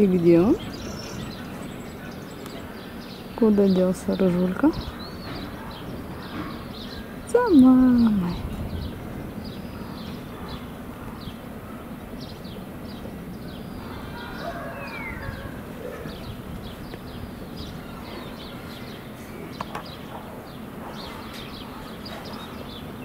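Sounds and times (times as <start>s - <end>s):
outdoor background noise: 0.0s - 23.0s
small birds chirping: 0.0s - 23.0s.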